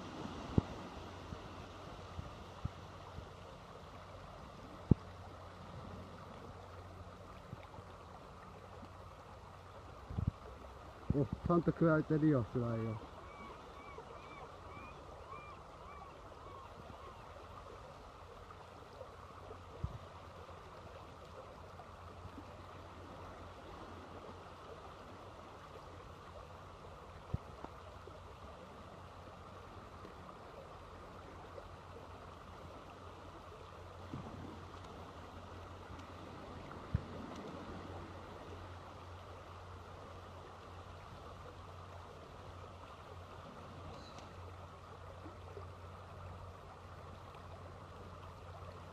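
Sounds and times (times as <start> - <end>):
water washing on stony shore: 0.0 - 48.9.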